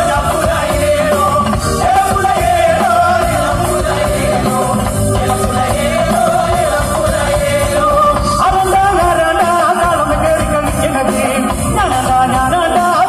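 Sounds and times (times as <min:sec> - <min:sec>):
live band playing amplified music: 0:00.0 - 0:13.0.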